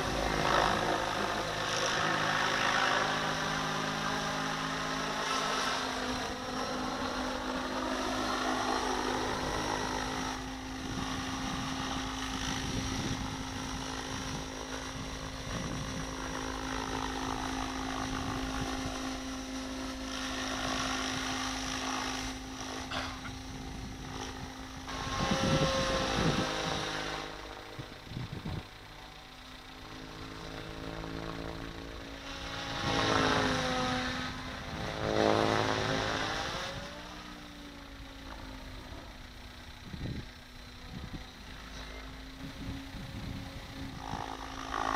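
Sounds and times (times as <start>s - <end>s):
model helicopter rotor whine: 0.0s - 44.9s.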